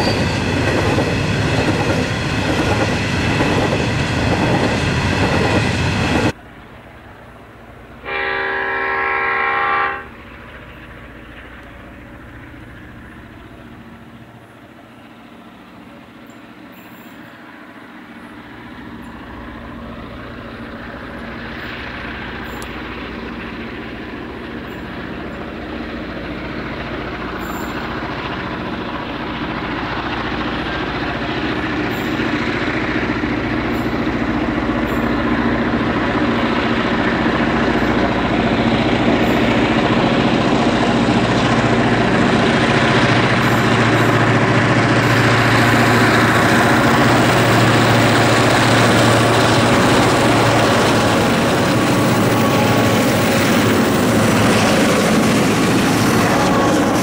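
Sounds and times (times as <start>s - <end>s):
diesel locomotives running under load: 0.0s - 57.0s.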